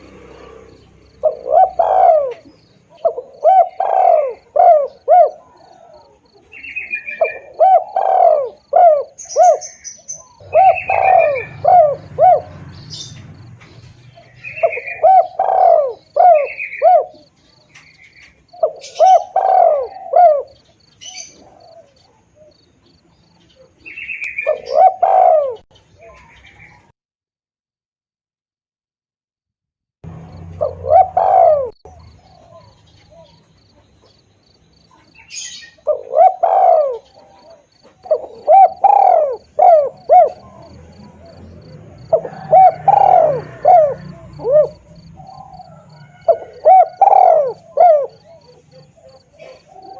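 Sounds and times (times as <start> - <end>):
dove cooing: 0.0 - 26.9, 30.1 - 49.9
small birds chirping: 0.0 - 26.9, 30.0 - 49.9.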